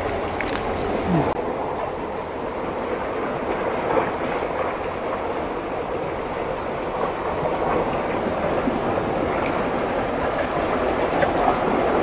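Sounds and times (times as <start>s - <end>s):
seawater washing around rocks: 0.0s - 12.0s.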